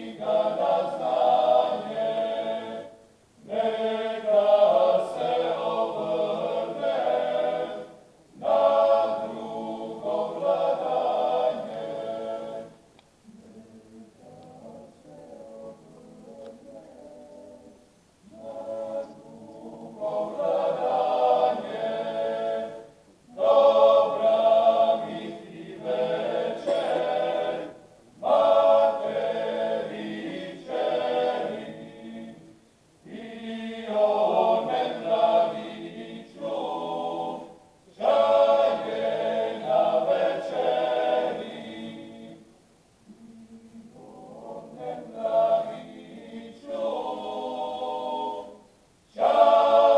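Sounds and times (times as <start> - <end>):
male vocal group singing harmony: 0.0 - 42.5, 43.1 - 49.9.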